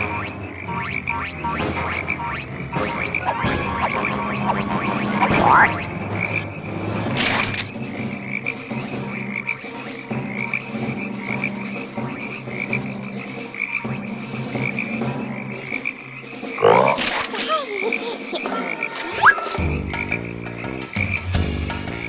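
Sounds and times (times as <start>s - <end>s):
frogs croaking: 0.0s - 22.0s.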